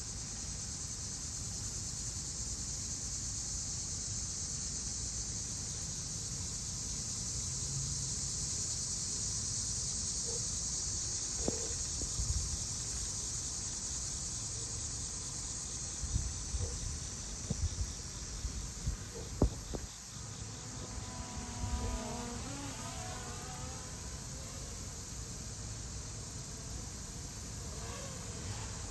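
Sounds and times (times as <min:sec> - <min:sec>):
insects chorus: 0:00.0 - 0:28.9.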